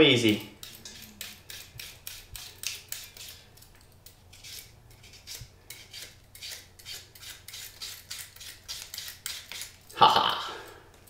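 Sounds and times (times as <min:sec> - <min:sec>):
peeler scraping fennel: 0:00.0 - 0:10.1.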